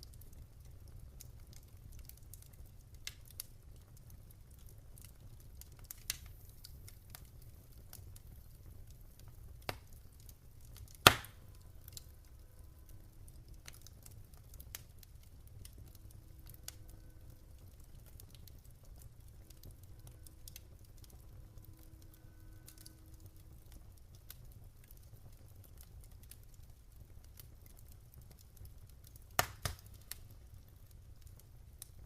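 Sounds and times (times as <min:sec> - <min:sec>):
low steady fire rumble: 0:00.0 - 0:32.0
wood fire crackling: 0:00.0 - 0:32.0.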